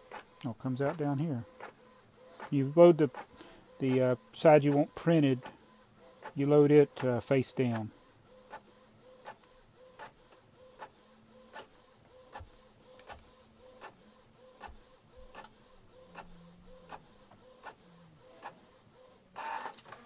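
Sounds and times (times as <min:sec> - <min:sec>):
inkjet printer printing: 0:00.0 - 0:20.0.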